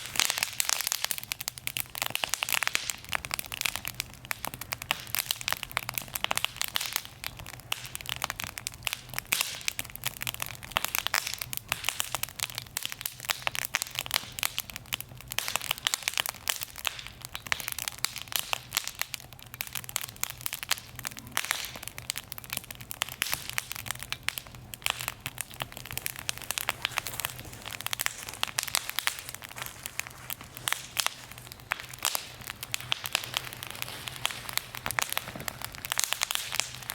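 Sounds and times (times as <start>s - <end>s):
wood fire crackling and popping: 0.0s - 36.9s.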